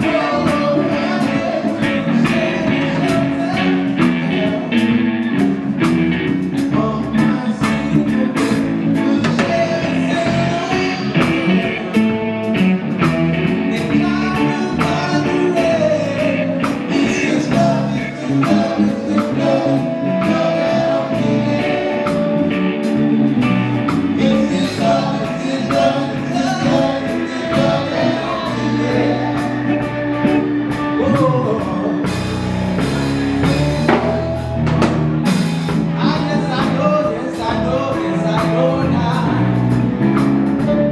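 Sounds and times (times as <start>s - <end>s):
blues-rock band with singing: 0.0s - 40.9s.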